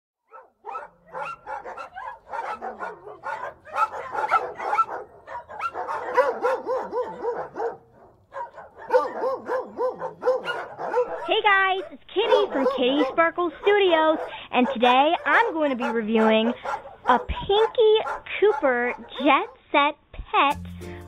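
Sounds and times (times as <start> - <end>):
dogs barking: 0.2 - 19.6.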